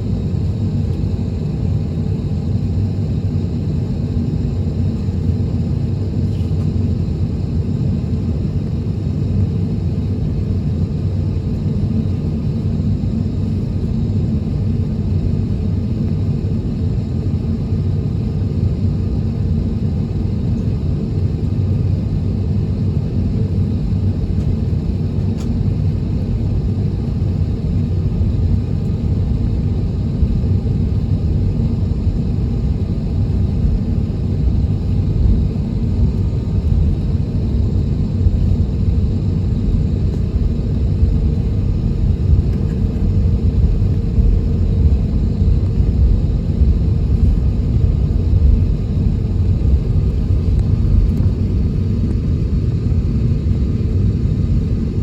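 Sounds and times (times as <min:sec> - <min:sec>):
aircraft cabin rumble while taxiing: 0:00.0 - 0:55.0.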